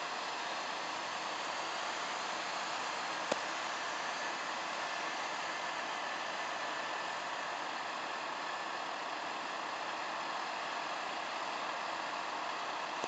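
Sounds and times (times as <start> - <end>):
distant vehicle engines idling: 0.0 - 13.0.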